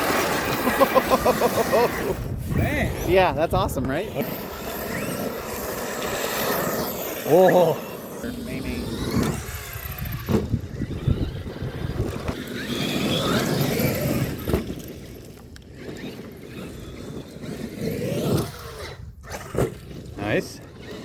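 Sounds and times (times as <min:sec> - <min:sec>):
electric rc truck motor whine: 0:00.0 - 0:21.0.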